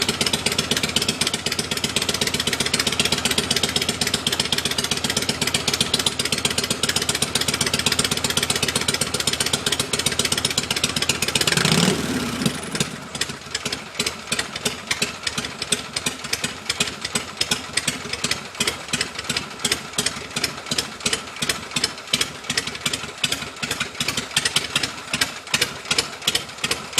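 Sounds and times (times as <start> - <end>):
motorcycle engine revving and idling: 0.0 - 26.9.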